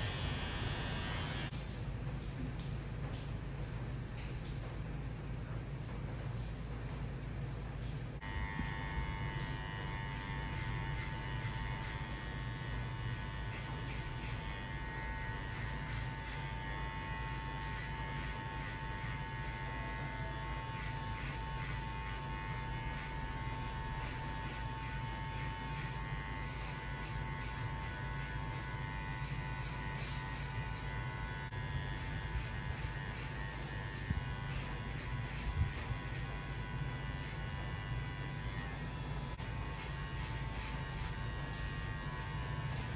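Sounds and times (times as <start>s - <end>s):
electric hair clipper buzzing: 0.0s - 1.5s, 8.2s - 42.9s.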